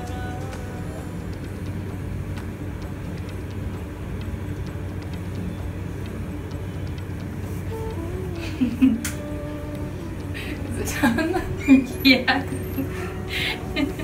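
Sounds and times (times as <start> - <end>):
faint constant tone: 0.0 - 14.0
low mechanical hum: 0.0 - 14.0.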